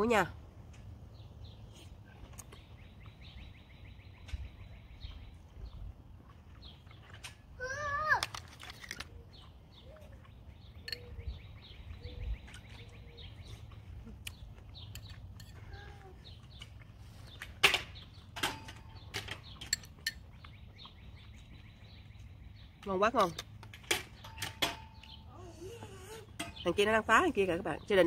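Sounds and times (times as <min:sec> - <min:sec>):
low outdoor hum: 0:00.0 - 0:28.0.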